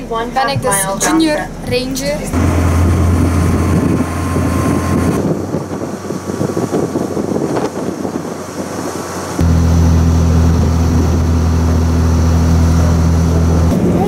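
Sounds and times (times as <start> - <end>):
uneven rumble: 0.0 - 14.0
vehicle low hum: 0.0 - 14.0.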